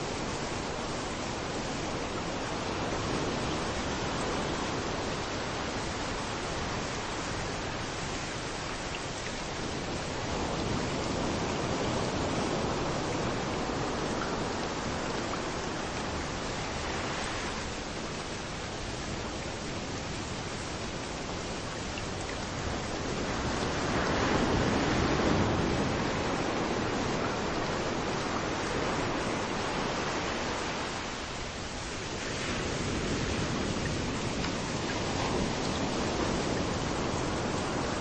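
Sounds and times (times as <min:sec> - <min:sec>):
rain falling: 0:00.0 - 0:38.0
waves washing on beach: 0:00.0 - 0:38.0.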